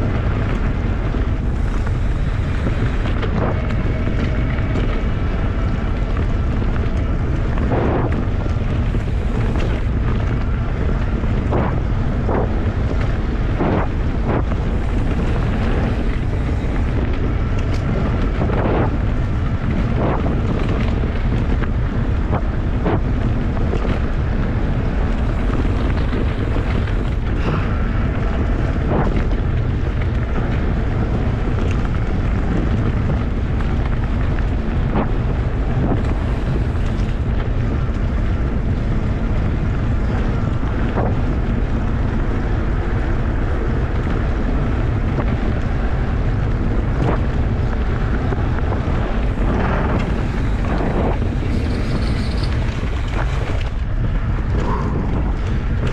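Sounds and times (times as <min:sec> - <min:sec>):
bicycle tyres rumbling on dirt: 0:00.0 - 0:55.9
bike knocks and rattles: 0:00.0 - 0:55.9
wind buffeting microphone: 0:00.0 - 0:55.9.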